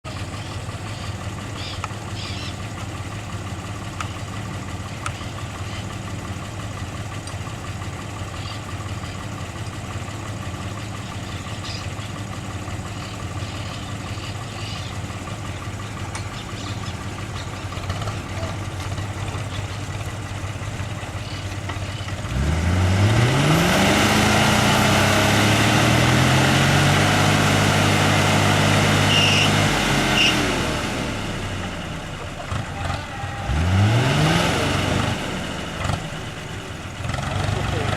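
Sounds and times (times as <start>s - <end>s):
off-road vehicle engine revving: 0.0s - 37.9s.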